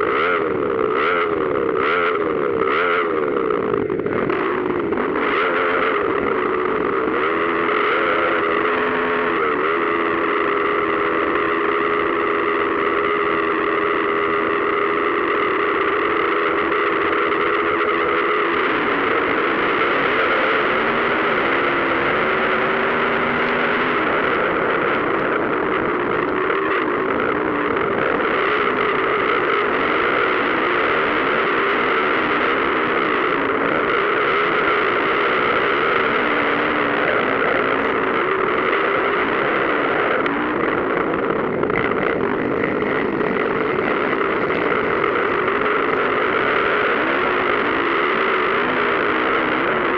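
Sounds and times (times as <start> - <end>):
motocross bikes revving: 0.0 - 49.9.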